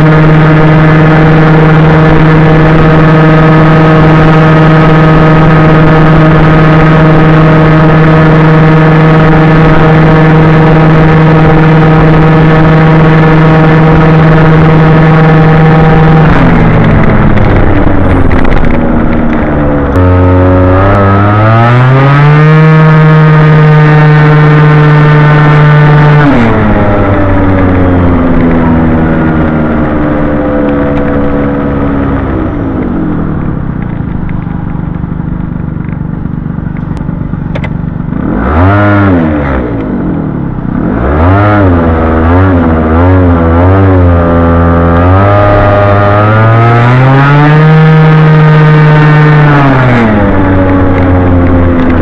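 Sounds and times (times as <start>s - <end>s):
scooter engine revving: 0.0s - 52.0s.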